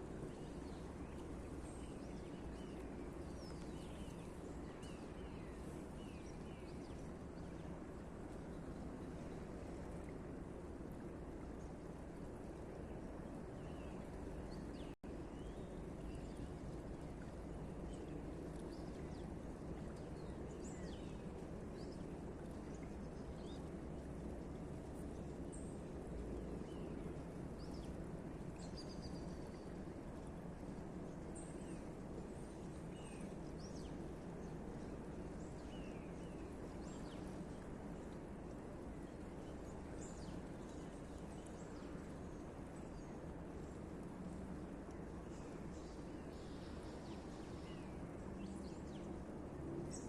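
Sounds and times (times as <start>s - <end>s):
low outdoor background noise: 0.0s - 50.0s.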